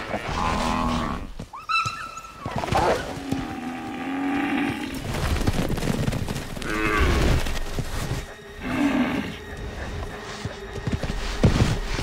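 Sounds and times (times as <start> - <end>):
hooves thudding on ground: 0.0 - 12.0.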